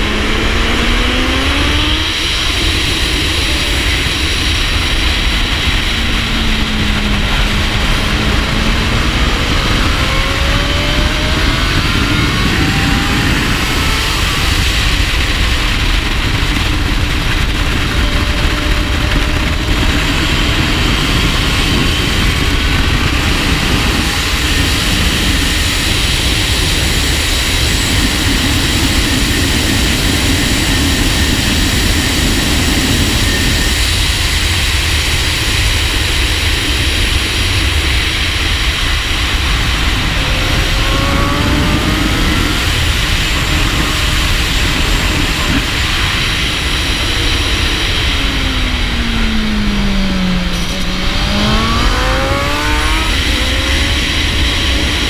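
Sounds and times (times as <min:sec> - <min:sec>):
faint motorcycle engine revving: 0:00.0 - 0:33.7, 0:36.6 - 0:55.0
wind rushing over camera: 0:00.0 - 0:55.0.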